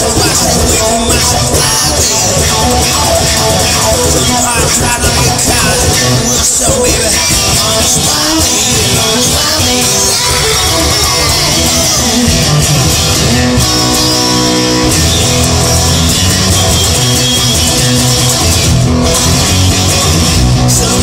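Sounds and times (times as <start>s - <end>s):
rock music with electric guitar: 0.0s - 21.0s.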